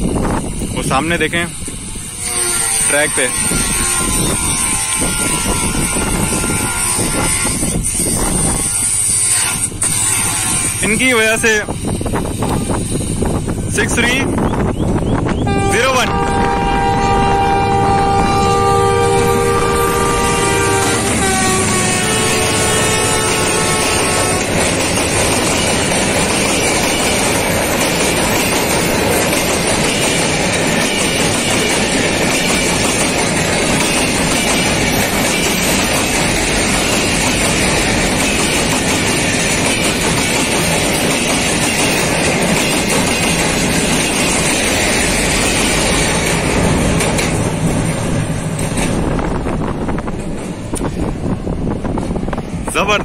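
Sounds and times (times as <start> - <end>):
train passing over bridge: 0.0 - 53.0.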